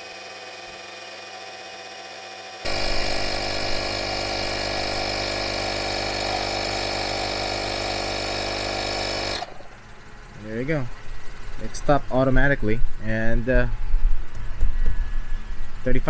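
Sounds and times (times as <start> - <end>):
tire inflator compressor running: 0.0 - 13.4.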